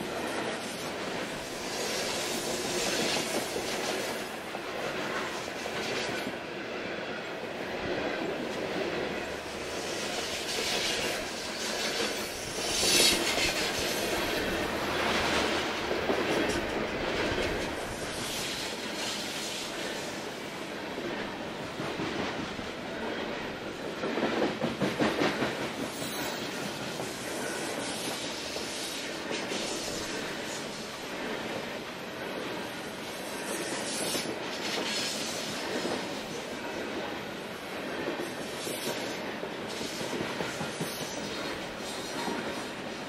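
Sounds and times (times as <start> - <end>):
freight train wheels clattering: 7.8 - 43.0.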